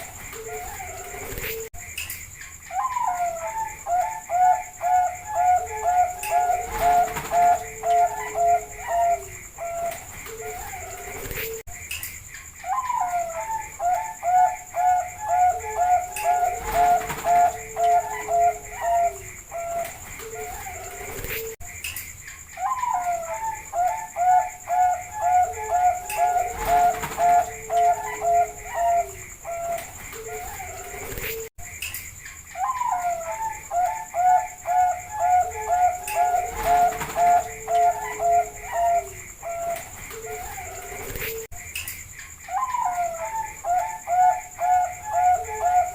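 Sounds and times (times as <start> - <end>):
doves cooing: 0.0 - 1.7, 2.6 - 11.7, 12.6 - 21.6, 22.6 - 31.5, 32.5 - 41.5, 42.5 - 45.9.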